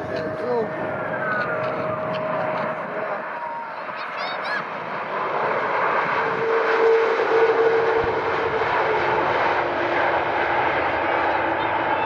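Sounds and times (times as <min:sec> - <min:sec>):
jet engines passing: 0:00.0 - 0:12.0.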